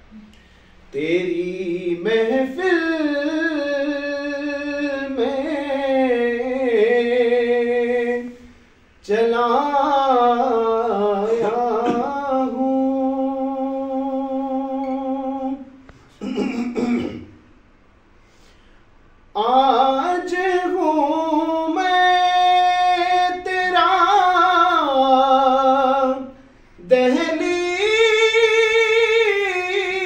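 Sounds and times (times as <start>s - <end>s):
man singing unaccompanied: 0.9s - 15.8s, 19.3s - 30.0s.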